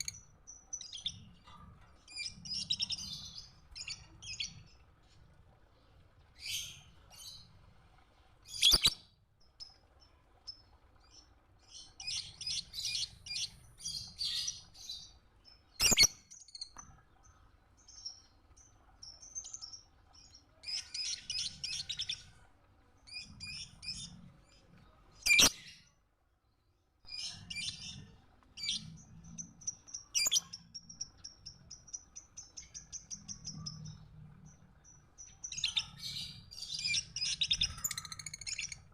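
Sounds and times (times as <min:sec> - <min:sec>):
bird chirping and twittering: 0:00.0 - 0:05.2, 0:06.3 - 0:07.6, 0:08.4 - 0:22.4, 0:23.0 - 0:25.9, 0:27.1 - 0:38.9.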